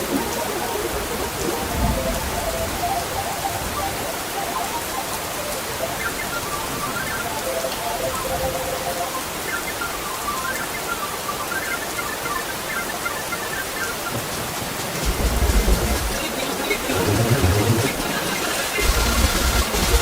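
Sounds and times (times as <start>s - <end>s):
faint soft musical notes: 0.0s - 20.0s
steady rain falling: 0.0s - 20.0s.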